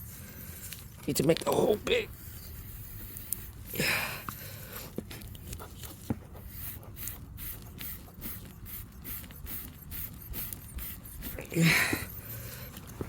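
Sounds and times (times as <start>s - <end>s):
reamer rasping in tire: 1.9s - 13.0s.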